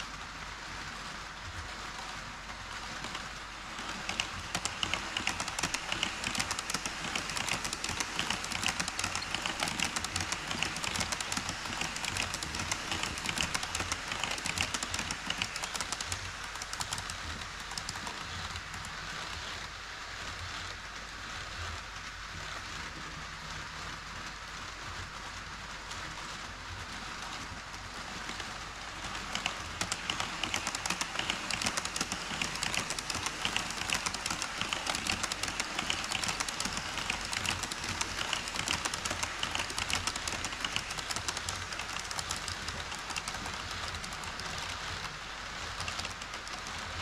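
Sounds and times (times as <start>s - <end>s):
model train wheels clicking on rails: 0.0s - 47.0s.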